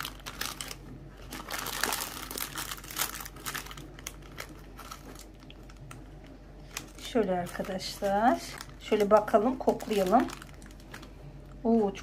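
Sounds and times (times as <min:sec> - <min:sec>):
plastic wrapper crinkling: 0:00.0 - 0:11.7.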